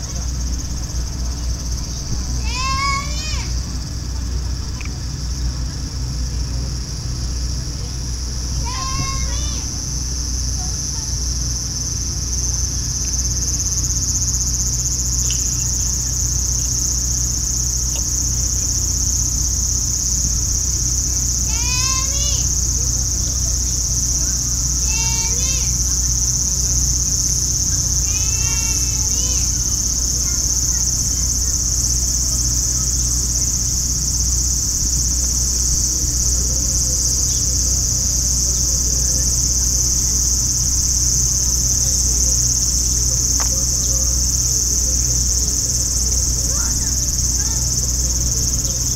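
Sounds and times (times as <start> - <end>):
cicadas buzzing: 0.0 - 48.9
low hum: 0.0 - 48.9
steady low rumble: 0.0 - 48.9.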